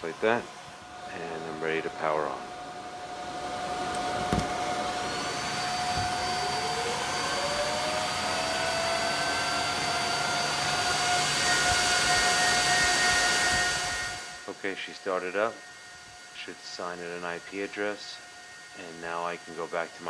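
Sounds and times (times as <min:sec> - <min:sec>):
cooling fans whining: 0:00.0 - 0:20.0.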